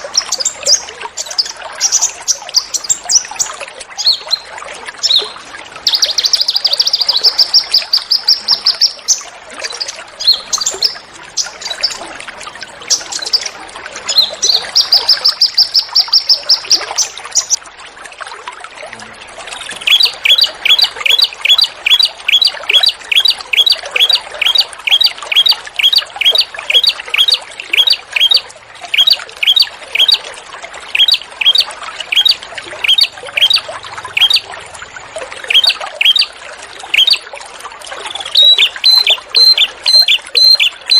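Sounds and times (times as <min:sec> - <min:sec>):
songbirds calling: 0:00.0 - 0:17.6, 0:19.0 - 0:30.2, 0:30.9 - 0:34.6, 0:35.4 - 0:37.3, 0:37.9 - 0:40.9
trickling water: 0:00.0 - 0:40.9.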